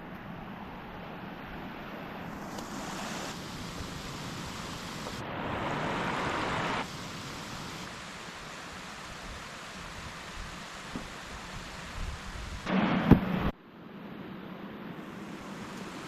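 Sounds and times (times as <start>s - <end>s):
rushing water: 0.2s - 13.5s, 14.8s - 16.0s.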